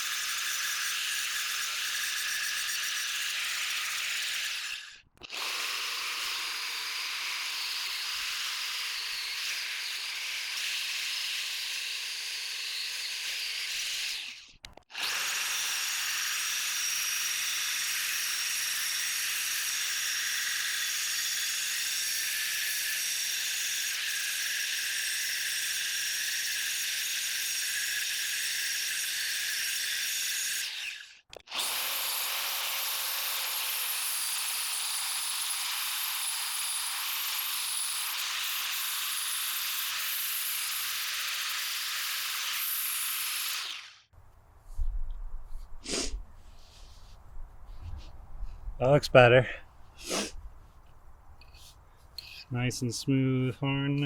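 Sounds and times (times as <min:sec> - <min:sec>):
angle grinder whining: 0:00.0 - 0:44.1.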